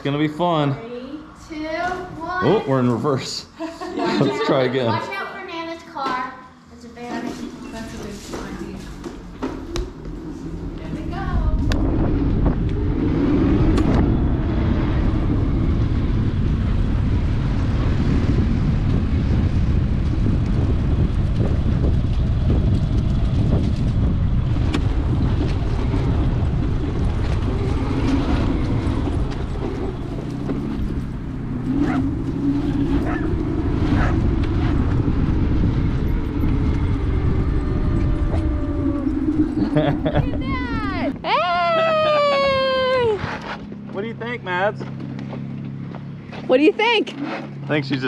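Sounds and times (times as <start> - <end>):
vehicle ride rumble: 6.9 - 48.0.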